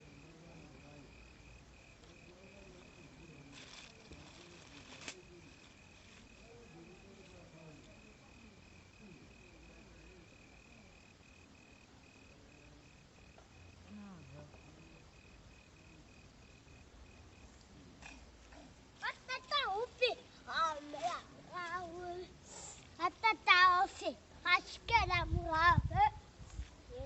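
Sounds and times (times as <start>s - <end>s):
insect chirping: 0.0s - 27.0s.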